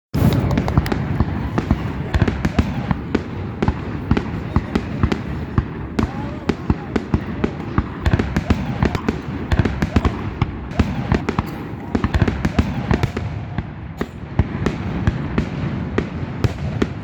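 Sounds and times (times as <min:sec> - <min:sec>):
fireworks bangs and crackles: 0:00.1 - 0:17.0
low rumble of explosions: 0:00.2 - 0:17.0.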